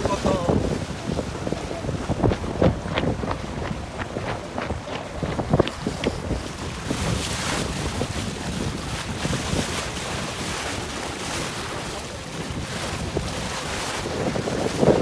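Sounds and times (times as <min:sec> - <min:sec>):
water rushing along boat: 0:00.0 - 0:15.0
wind buffeting microphone: 0:00.0 - 0:15.0.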